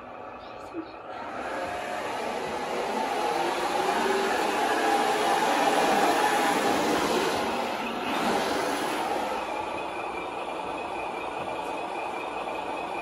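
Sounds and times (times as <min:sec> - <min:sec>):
simulated engine noise: 0:00.0 - 0:13.0
electric drive and gears whining: 0:01.0 - 0:13.0.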